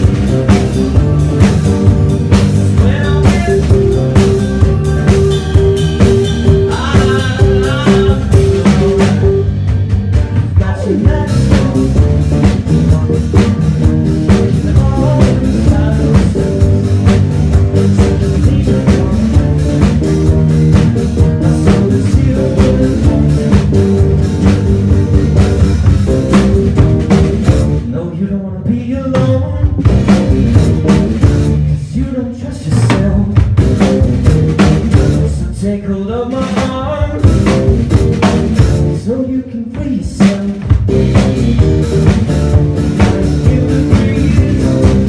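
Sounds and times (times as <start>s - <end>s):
drum kit beat: 0.0s - 28.0s, 28.6s - 45.0s
bass guitar: 0.0s - 45.0s.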